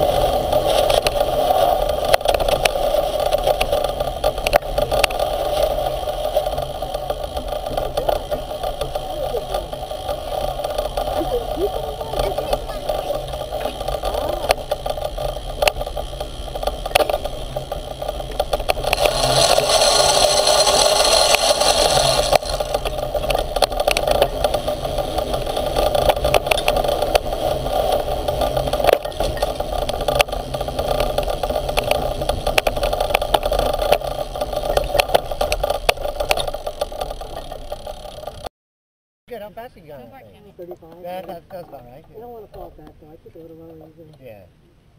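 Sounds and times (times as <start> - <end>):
electric motor running: 0.0 - 38.5
frame rattling over bumps: 0.0 - 38.5.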